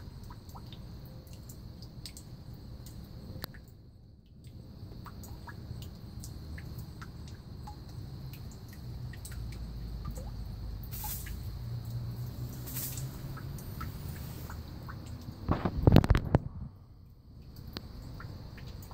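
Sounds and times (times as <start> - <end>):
water dripping into tank: 0.0 - 18.9.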